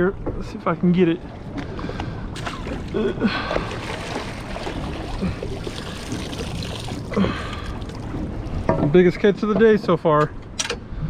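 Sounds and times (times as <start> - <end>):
water around boat: 0.0 - 11.0
wind: 0.0 - 11.0.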